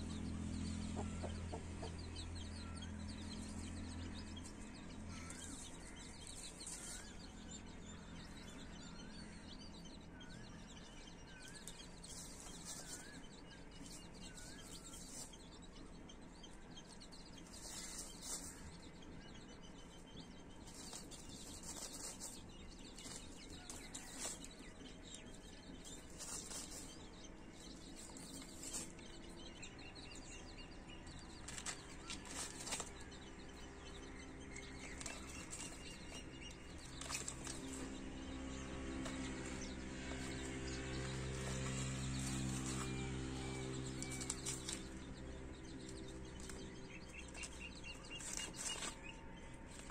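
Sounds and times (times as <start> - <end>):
baby chicks peeping: 0.0 - 49.9
chicks pecking on ground: 0.0 - 49.9.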